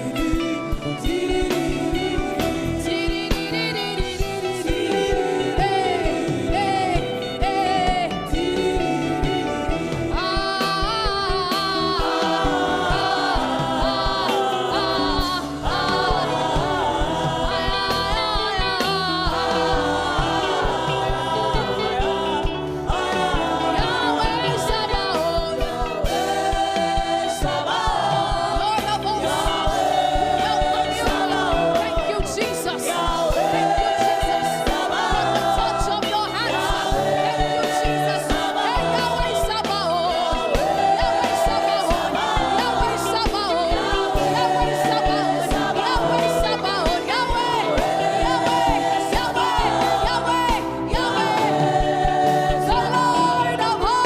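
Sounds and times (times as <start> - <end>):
sustained instrumental backing: 0.0 - 54.0
voices singing together: 0.0 - 54.0.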